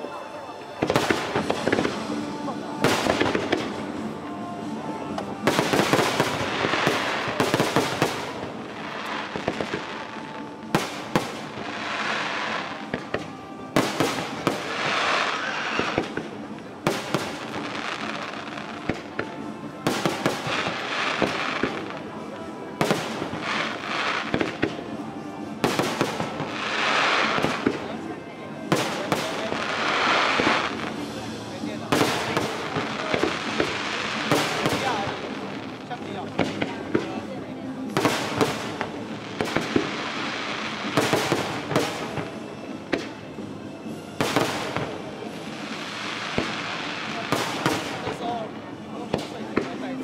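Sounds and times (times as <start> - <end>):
fireworks crackling: 0.0 - 50.0
fireworks bangs: 0.8 - 4.1, 5.2 - 24.9, 25.5 - 37.3, 37.9 - 43.4, 44.1 - 50.0.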